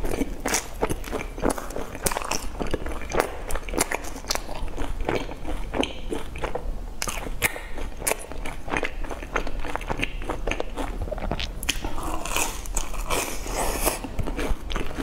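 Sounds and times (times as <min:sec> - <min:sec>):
chewing crunchy fried food: 0:00.0 - 0:15.0.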